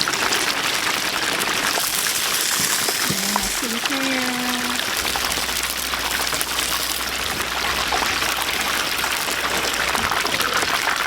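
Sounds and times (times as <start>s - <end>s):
hot oil sizzling in deep fryer: 0.0s - 11.0s.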